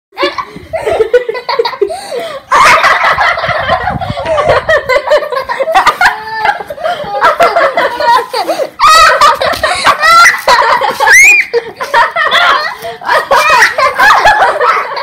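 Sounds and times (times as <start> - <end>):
children laughing: 0.2 - 15.0.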